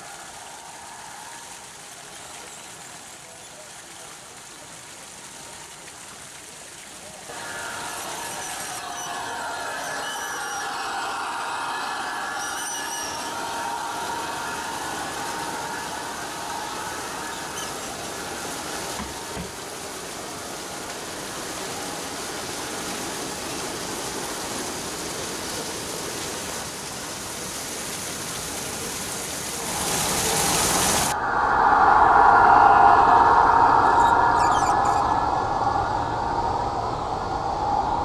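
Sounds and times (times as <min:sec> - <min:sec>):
running water: 0:00.0 - 0:31.2.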